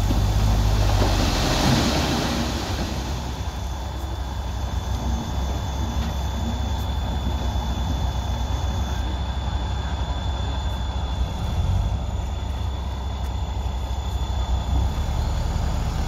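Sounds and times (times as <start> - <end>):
diesel machinery rumbling: 0.0 - 16.0
faint high whine: 0.4 - 16.0.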